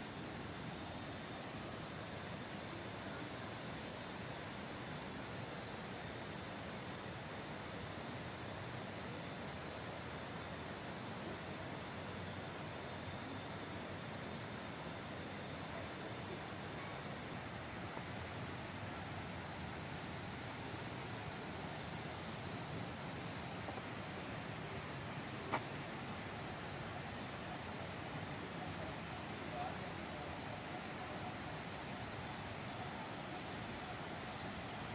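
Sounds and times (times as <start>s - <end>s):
background hiss: 0.0s - 34.9s
insects droning: 0.0s - 34.9s.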